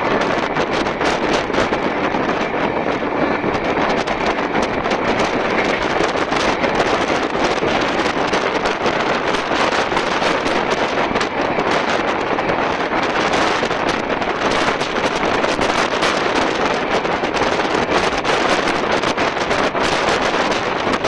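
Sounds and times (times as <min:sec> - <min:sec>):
train running noise: 0:00.0 - 0:21.0
wind buffeting microphone: 0:00.0 - 0:21.0.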